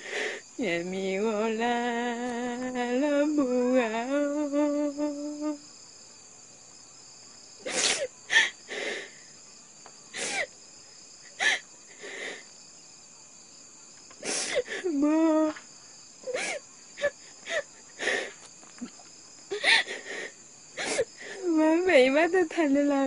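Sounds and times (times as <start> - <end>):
insect chirring: 0.0 - 23.0.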